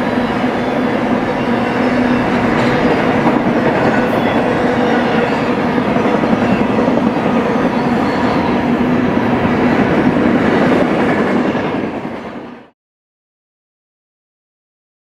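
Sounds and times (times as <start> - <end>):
steel wheels on rail: 0.0 - 12.7.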